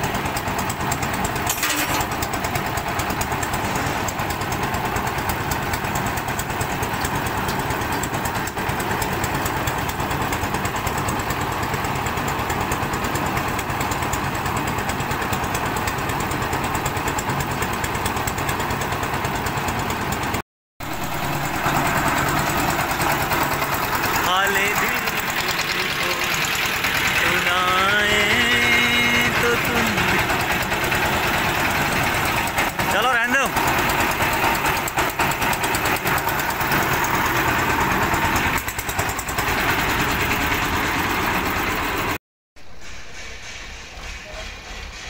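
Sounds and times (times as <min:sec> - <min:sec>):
diesel engine knocking: 0:00.0 - 0:42.2.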